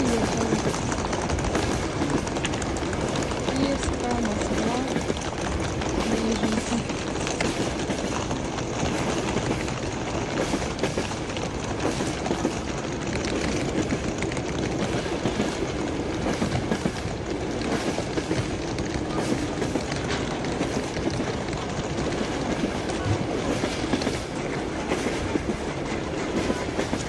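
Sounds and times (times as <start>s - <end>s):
train rumbling on rails: 0.0s - 27.0s
wheel clicks: 0.0s - 27.0s.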